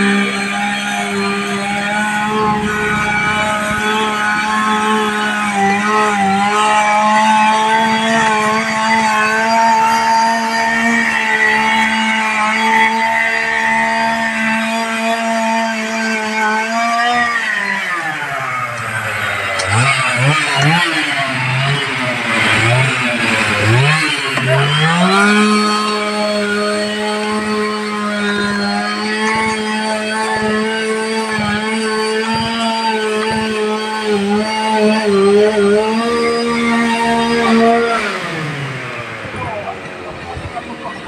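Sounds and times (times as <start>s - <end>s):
chainsaw cutting tree trunk: 0.0s - 41.0s.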